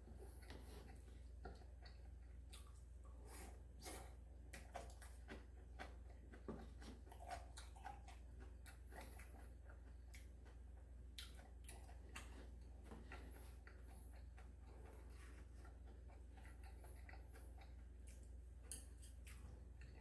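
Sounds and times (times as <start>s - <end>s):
quiet chewing: 0.0s - 20.0s
steady low hum: 0.0s - 20.0s.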